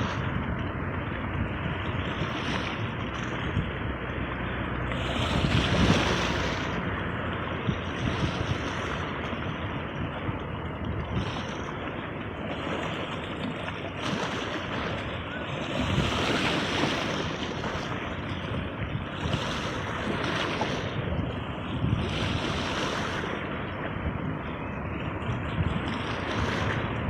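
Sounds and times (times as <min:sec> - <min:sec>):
sea waves breaking: 0:00.0 - 0:27.0.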